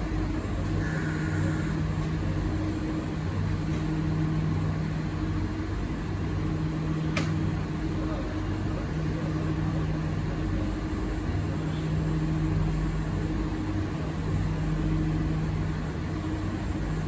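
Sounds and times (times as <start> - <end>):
train air conditioning hum: 0.0 - 17.0.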